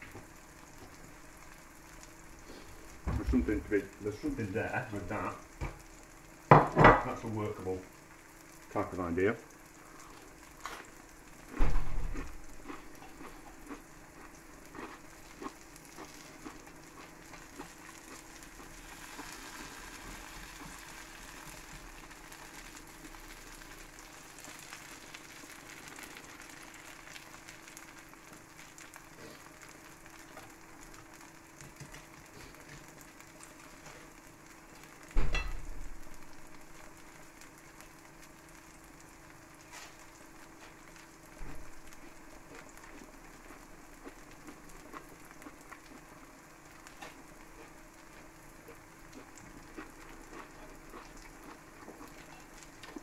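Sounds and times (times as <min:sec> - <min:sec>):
cheese sizzling in a pan: 0:00.0 - 0:53.0.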